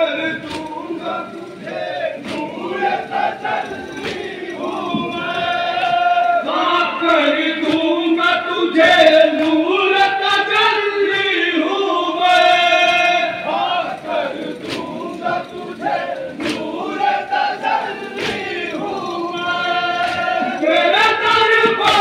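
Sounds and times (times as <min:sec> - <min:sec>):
crowd of men chanting: 0:00.0 - 0:22.0.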